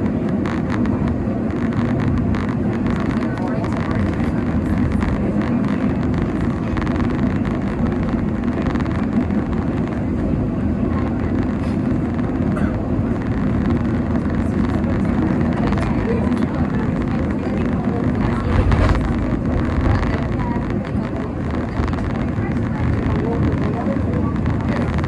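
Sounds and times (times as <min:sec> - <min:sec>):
wheels rumbling on rails: 0:00.0 - 0:25.0.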